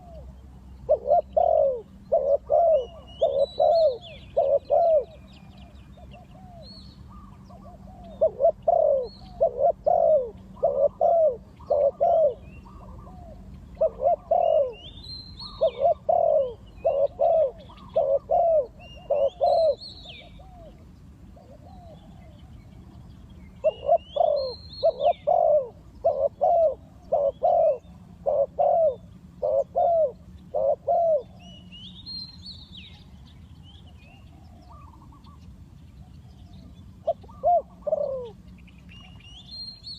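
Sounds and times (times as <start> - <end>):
dove cooing: 0.0 - 22.3, 23.6 - 31.7, 34.1 - 35.4, 36.1 - 39.4
small birds chirping: 0.0 - 39.9.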